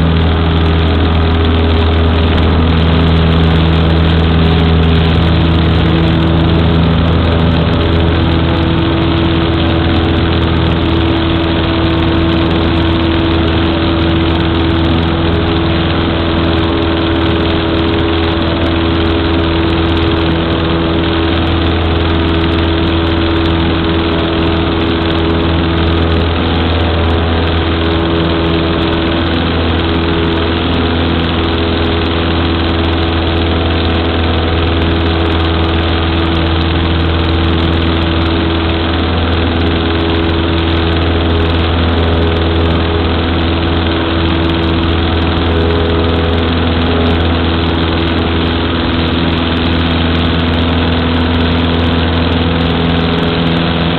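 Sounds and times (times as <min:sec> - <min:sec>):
small plane engine droning: 0:00.0 - 0:53.9.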